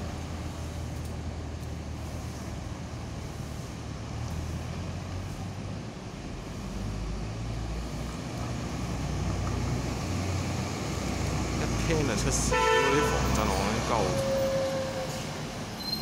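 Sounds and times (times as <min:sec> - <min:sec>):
bus diesel engine: 0:00.0 - 0:16.0
traffic noise: 0:00.0 - 0:16.0.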